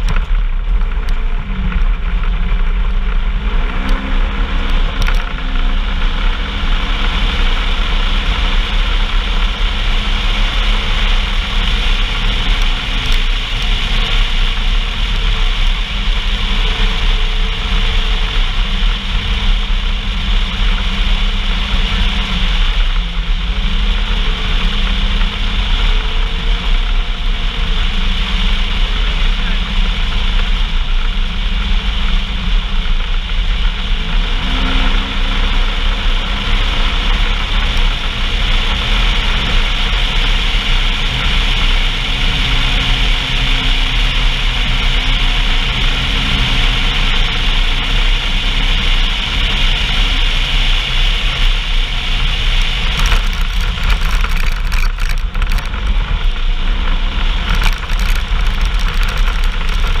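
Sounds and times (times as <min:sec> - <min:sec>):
gusty crackle: 0:00.0 - 1:00.0
off-road vehicle engine running: 0:00.0 - 1:00.0
wind noise on microphone: 0:00.0 - 1:00.0.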